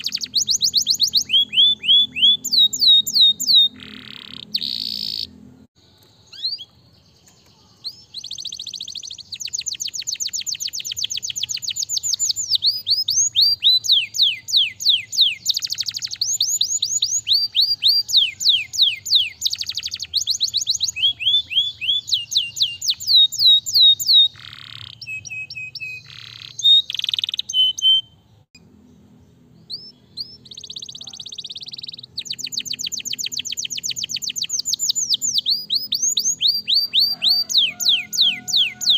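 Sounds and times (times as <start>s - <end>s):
canary trilling: 0.0s - 5.5s, 6.3s - 6.7s, 7.5s - 28.2s, 29.7s - 38.9s.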